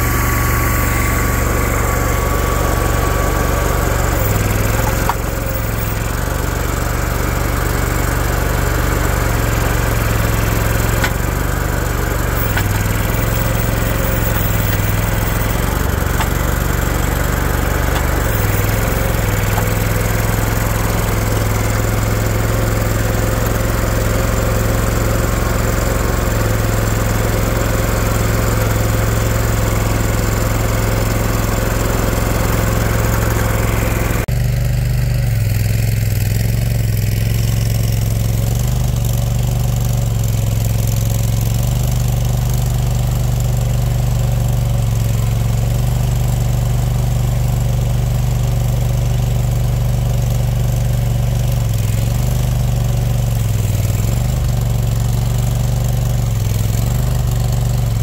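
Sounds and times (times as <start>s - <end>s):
skid steer engine running: 0.0s - 58.0s.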